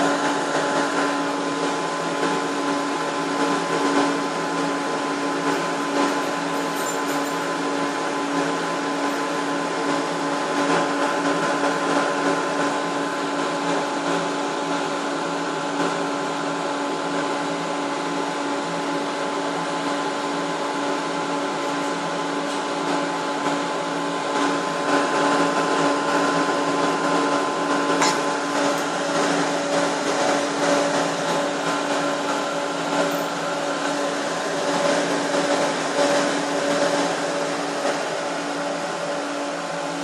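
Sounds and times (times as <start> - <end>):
cooling blowers whining and humming: 0.0 - 40.0.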